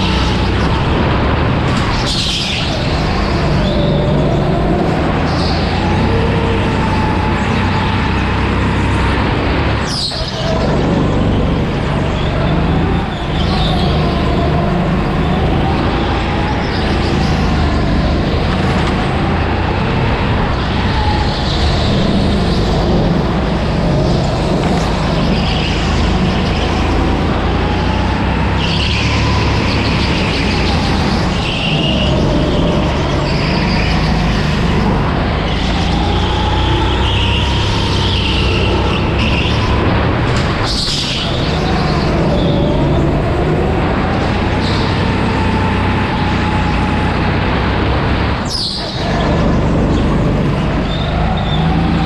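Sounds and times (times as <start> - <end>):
go-kart engine running hard: 0.0 - 52.0
high squeals: 0.0 - 52.0
wind and chassis noise: 0.0 - 52.0.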